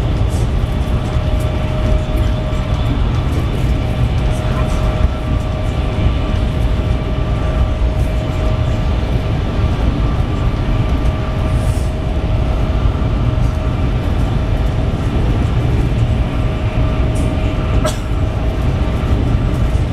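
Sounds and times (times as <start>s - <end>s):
high-speed train rumbling: 0.0s - 19.9s.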